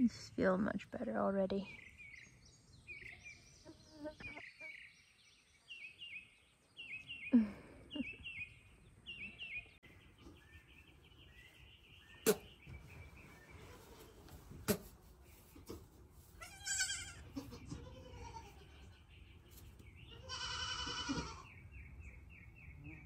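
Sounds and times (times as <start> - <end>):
bird chirping song: 0.0 - 23.0.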